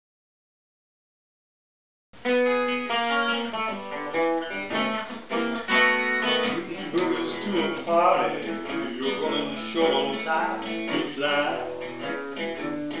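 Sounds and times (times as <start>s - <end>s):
acoustic guitar blues: 2.2s - 13.0s.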